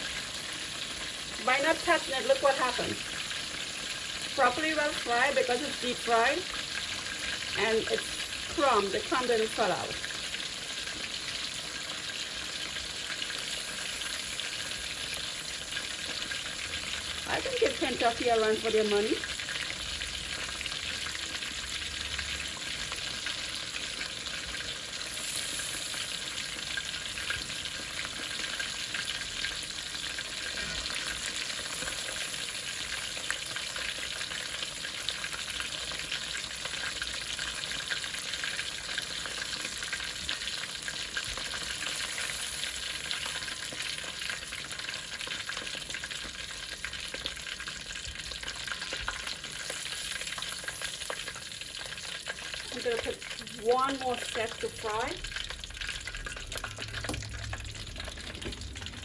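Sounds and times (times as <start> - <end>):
deep-frying sizzle with crackles: 0.0 - 59.0.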